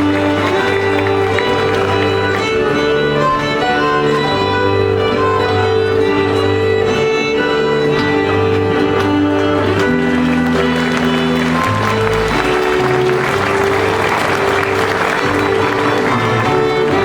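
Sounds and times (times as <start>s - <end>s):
fiddles playing dance tune: 0.0s - 17.0s.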